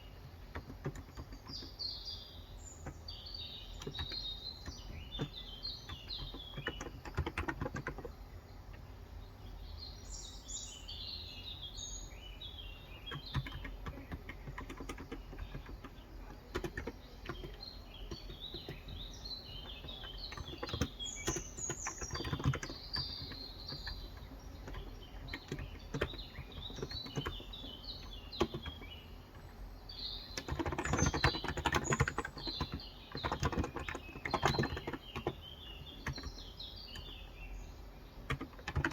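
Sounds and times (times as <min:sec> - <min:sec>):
small birds chirping: 0:00.0 - 0:38.9
typing on a keyboard: 0:00.1 - 0:01.8, 0:03.7 - 0:08.9, 0:12.9 - 0:29.5, 0:30.2 - 0:37.3, 0:38.0 - 0:38.9.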